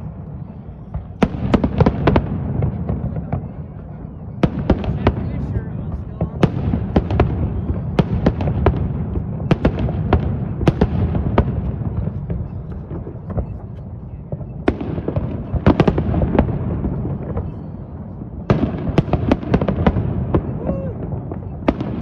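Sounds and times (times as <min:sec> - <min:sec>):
firework cracks and bangs: 0:00.0 - 0:22.0
rumble of firework bursts: 0:00.0 - 0:22.0.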